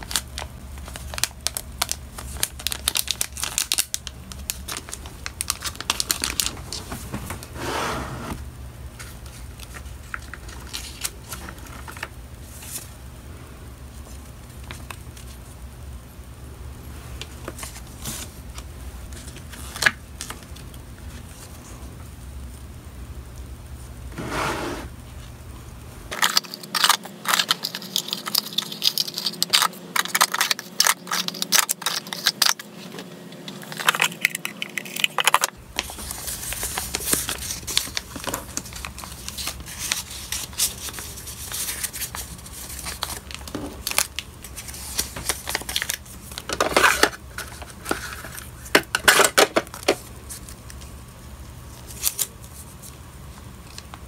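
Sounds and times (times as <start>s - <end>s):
paper crinkling and rustling: 0.0s - 7.5s, 9.0s - 13.0s, 17.2s - 21.8s, 26.1s - 51.0s, 51.6s - 54.0s.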